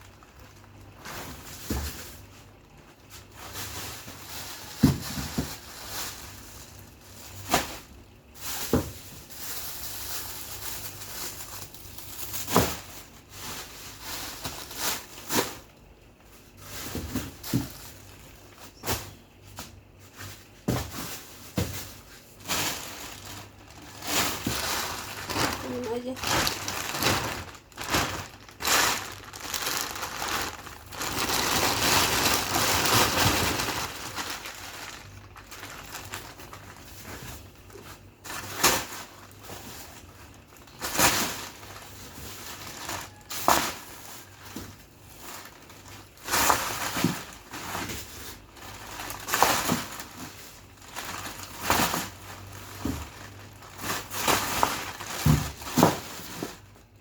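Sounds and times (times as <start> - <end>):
plastic bags crinkling: 0.0 - 57.0
frozen packs knocking: 0.2 - 56.8.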